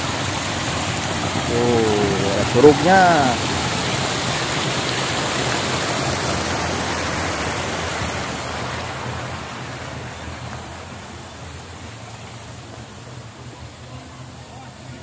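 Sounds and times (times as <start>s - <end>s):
water pouring over a weir: 0.0s - 12.6s.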